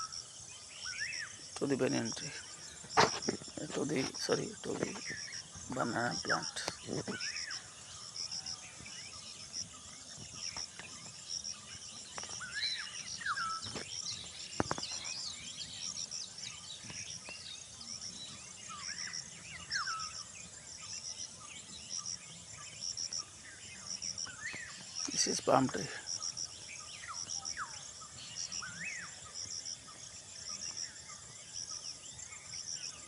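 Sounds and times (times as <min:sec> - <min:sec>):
birds chirping: 0:00.0 - 0:33.0
insects chirping: 0:00.0 - 0:33.0.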